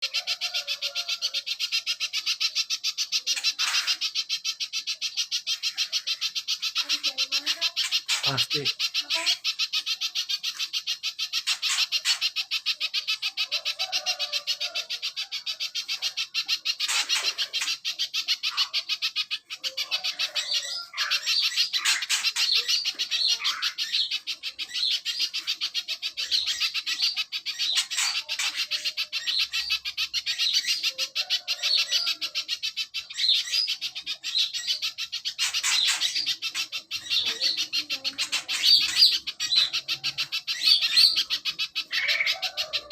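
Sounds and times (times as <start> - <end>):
bird sweeping calls: 0.0 - 42.9.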